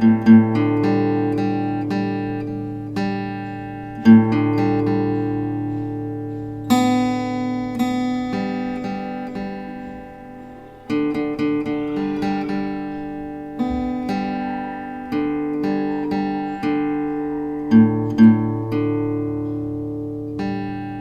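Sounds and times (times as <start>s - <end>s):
acoustic guitar chords ringing: 0.0s - 21.0s.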